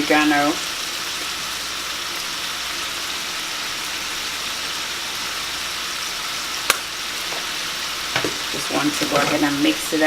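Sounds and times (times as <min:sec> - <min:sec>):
shrimp sizzling in oil: 0:00.0 - 0:10.0.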